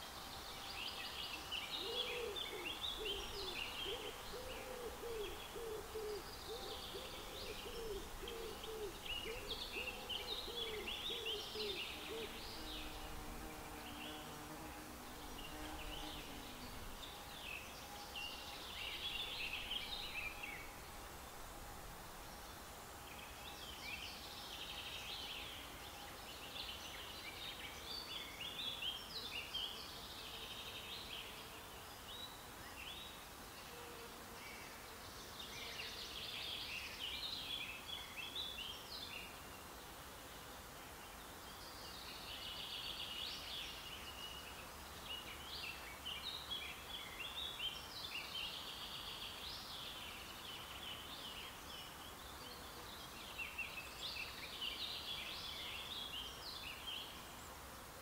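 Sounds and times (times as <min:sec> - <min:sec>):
songbirds singing: 0:00.0 - 0:33.8, 0:34.4 - 0:40.0, 0:40.6 - 0:57.7
outdoor background hiss: 0:00.0 - 0:58.0.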